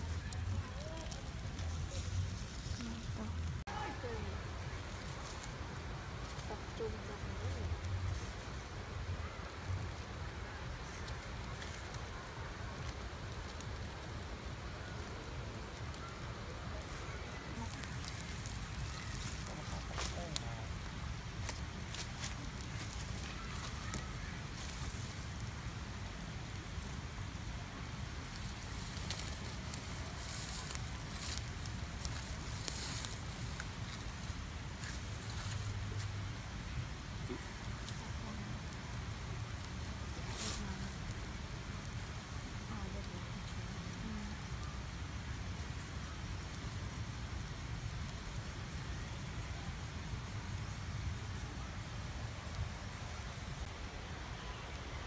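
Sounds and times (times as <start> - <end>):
fire pops: 0.0 - 6.9, 7.7 - 53.8
leaves and twigs fire crackling: 0.0 - 55.0.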